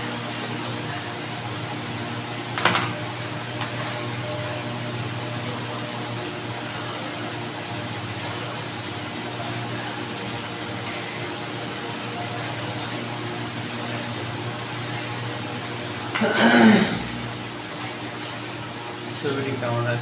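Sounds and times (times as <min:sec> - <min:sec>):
electric desk fan running: 0:00.0 - 0:20.0.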